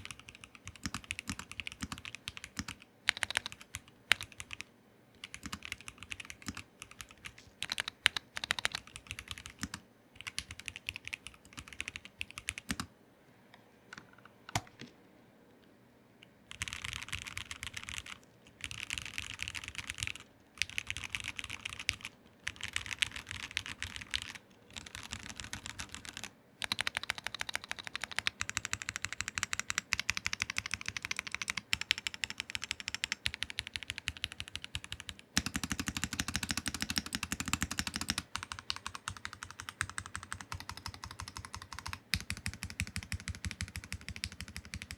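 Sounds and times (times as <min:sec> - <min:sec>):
mechanical keyboard typing: 0:00.0 - 0:12.9, 0:16.5 - 0:44.9.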